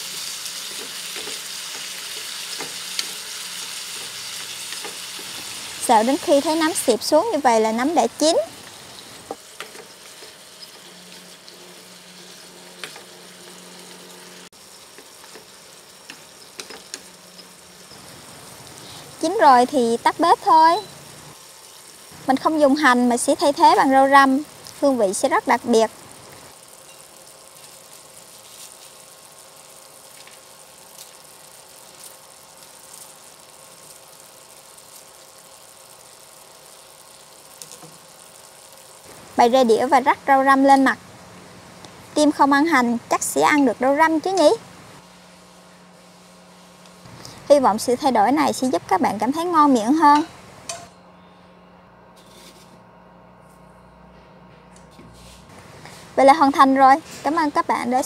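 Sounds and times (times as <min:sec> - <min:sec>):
food sizzling in a frying pan: 0:00.0 - 0:50.8.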